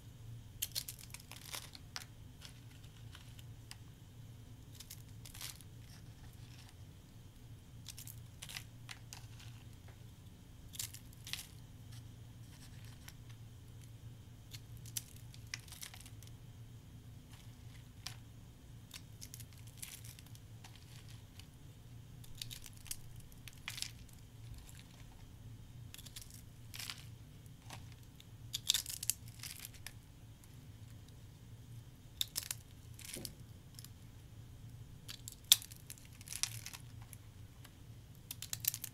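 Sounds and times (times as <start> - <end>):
soap curls crackling when crushed: 0.6 - 3.9, 4.6 - 6.8, 7.8 - 10.0, 10.7 - 16.4, 17.2 - 21.6, 22.2 - 31.2, 32.1 - 34.1, 35.0 - 38.9.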